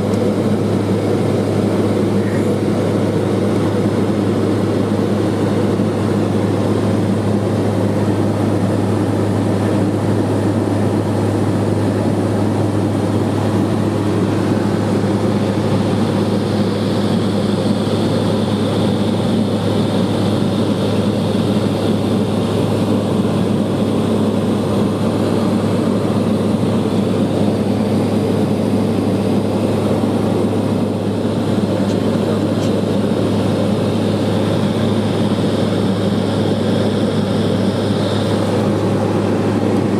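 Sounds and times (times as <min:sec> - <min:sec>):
propeller engine droning in cabin: 0:00.0 - 0:39.9.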